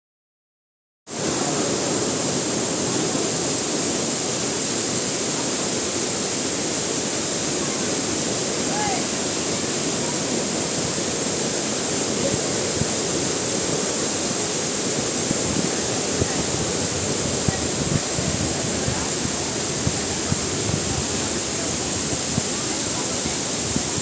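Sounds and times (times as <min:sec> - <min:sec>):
waterfall rushing: 0:01.1 - 0:24.0.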